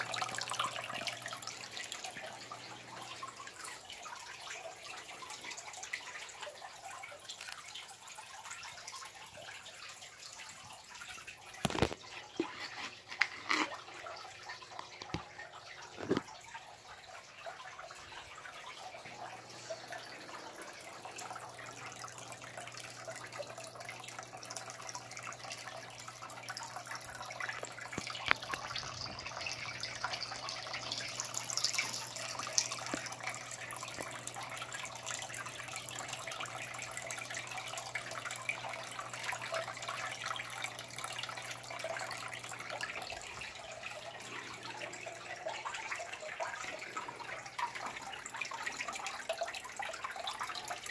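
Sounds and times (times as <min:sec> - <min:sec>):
water trickling and bubbling: 0:00.0 - 0:50.9.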